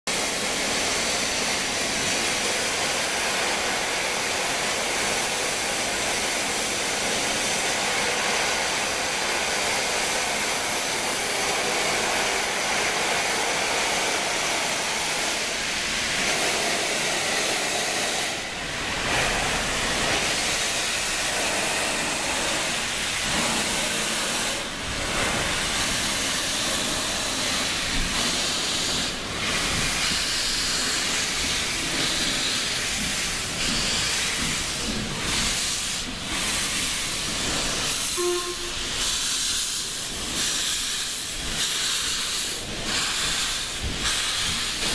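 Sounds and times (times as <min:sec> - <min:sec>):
steam locomotive venting steam: 0:00.1 - 0:44.9.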